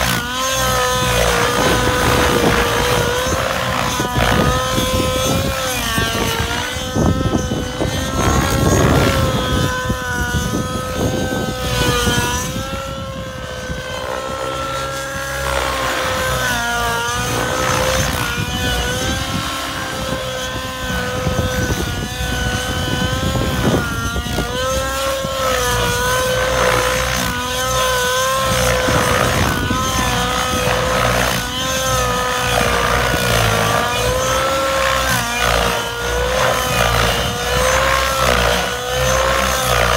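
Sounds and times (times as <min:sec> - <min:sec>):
model helicopter engine whining: 0:00.0 - 0:39.9.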